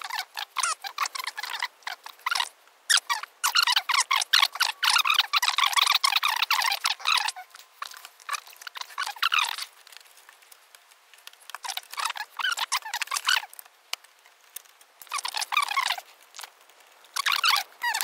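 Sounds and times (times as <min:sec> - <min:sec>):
cable scratching and squeaky rubbing: 0:00.0 - 0:18.0
small plastic clicks: 0:00.0 - 0:18.0.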